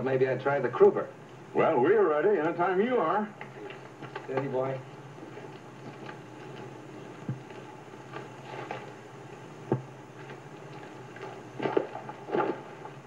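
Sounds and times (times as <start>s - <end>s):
film soundtrack hum and hiss: 0.0s - 13.0s.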